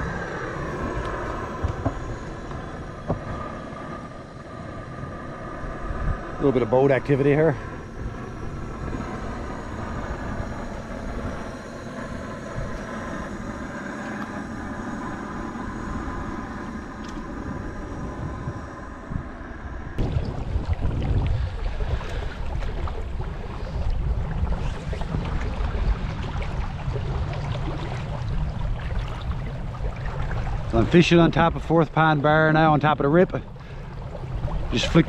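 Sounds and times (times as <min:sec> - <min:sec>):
distant motorboat engine droning: 0:00.0 - 0:35.0
wind rumbling on microphone: 0:00.0 - 0:35.0.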